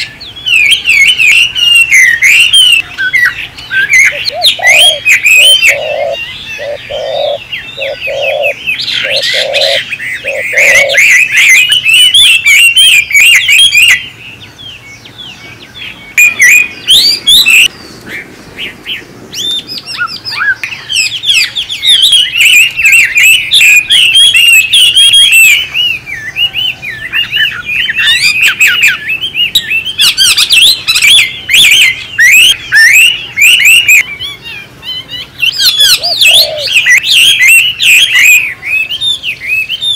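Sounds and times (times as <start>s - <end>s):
birds chirping and chattering: 0.0s - 39.9s.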